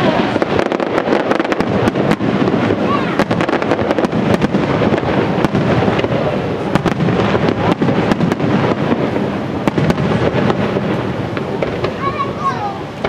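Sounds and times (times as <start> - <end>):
firework booms: 0.0 - 13.0
firework crackling: 0.0 - 13.0.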